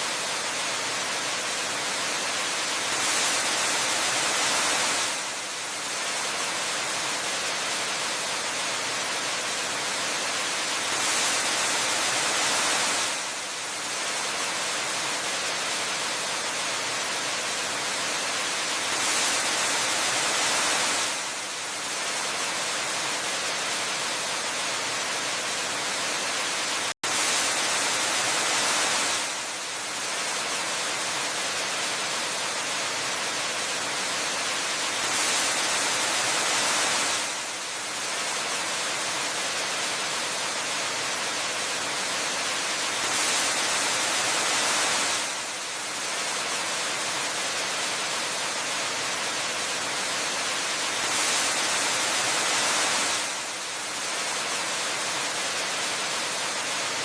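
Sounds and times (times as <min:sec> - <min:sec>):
waterfall hiss: 0:00.0 - 0:57.0.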